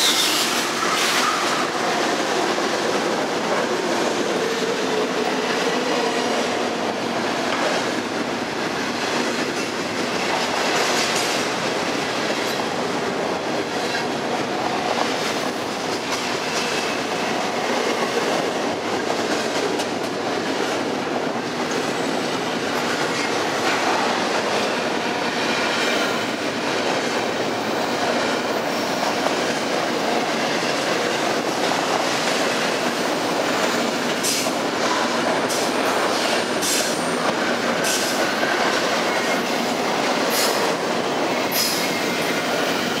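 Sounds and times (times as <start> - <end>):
train wheels rumbling and rattling: 0.0 - 43.0.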